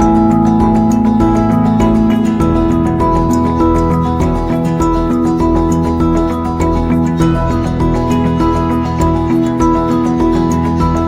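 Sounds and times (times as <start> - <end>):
calm new-age music: 0.0 - 11.0.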